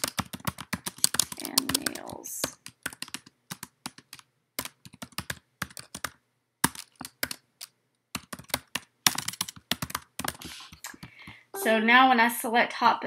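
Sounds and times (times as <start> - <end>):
keyboard typing: 0.0 - 11.4.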